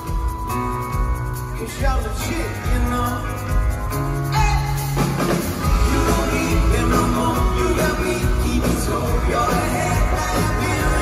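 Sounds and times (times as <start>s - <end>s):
live pop-rock band: 0.0s - 11.0s
man singing: 1.6s - 11.0s.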